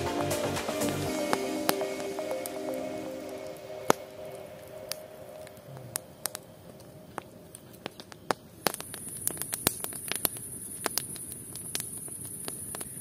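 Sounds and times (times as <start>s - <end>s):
campfire crackling and popping: 0.0s - 13.0s
steady high hiss: 0.0s - 13.0s.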